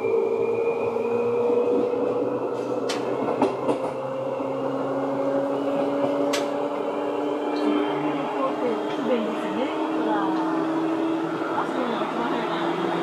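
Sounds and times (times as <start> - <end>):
electric train motors whining: 0.0 - 13.0.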